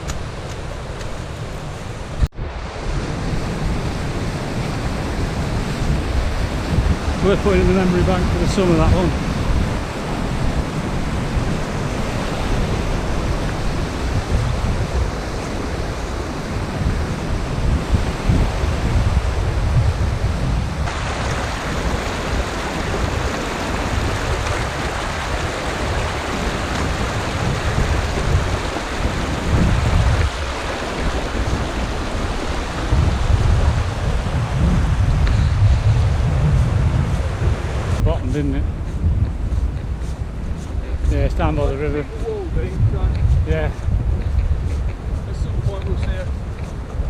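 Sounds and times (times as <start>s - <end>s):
steady rushing noise: 0.0s - 47.0s
strong wind buffeting microphone: 0.0s - 47.0s.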